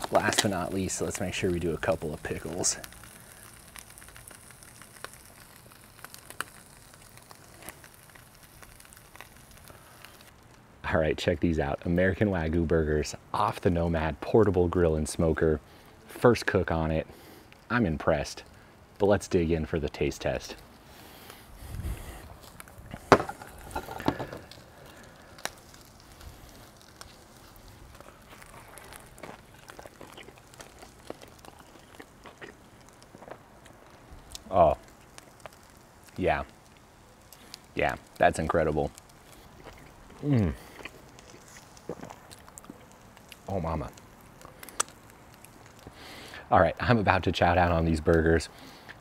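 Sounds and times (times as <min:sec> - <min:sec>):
charcoal grill crackling hiss: 0:00.0 - 0:49.0.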